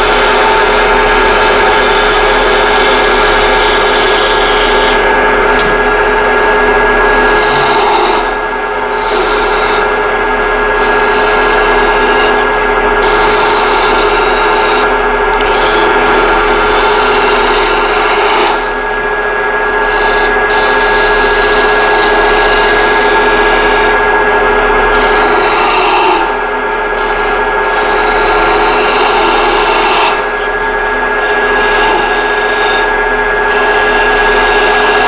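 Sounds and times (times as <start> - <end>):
wood lathe humming: 0.0 - 35.0.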